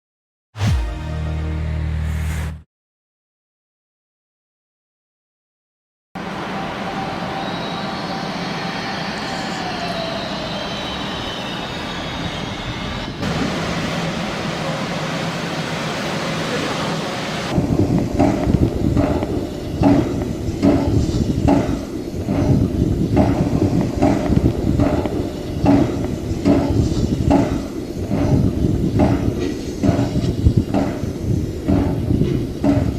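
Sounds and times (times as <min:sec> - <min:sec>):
steam train running: 0:06.3 - 0:32.9.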